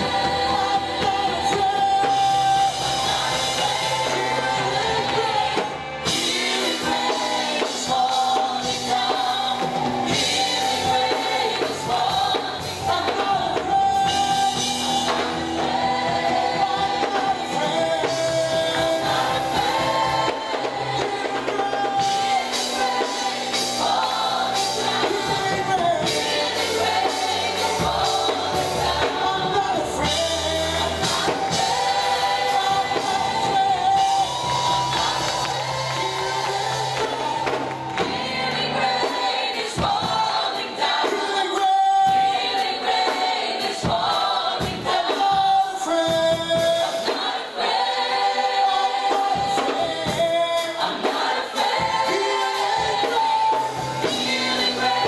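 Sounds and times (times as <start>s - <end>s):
group singing gospel: 0.0s - 55.0s.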